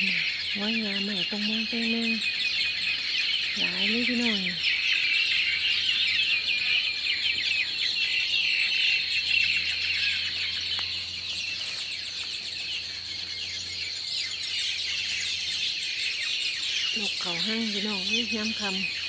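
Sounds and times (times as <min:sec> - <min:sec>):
flock of birds chattering: 0:00.0 - 0:19.0.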